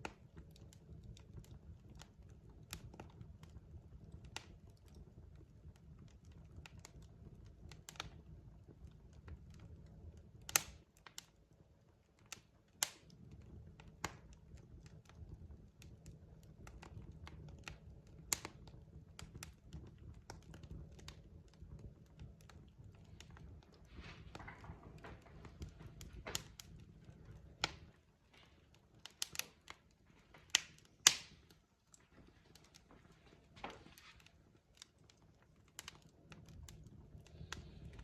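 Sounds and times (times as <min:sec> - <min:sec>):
logs crackling and popping: 0:00.0 - 0:38.0
low steady fire rumble: 0:00.0 - 0:38.0.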